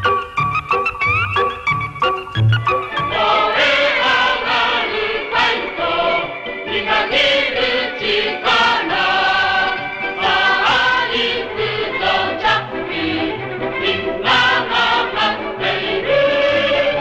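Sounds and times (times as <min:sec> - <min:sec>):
instrumental backing: 0:00.0 - 0:17.0
boys' choir singing: 0:03.0 - 0:17.0.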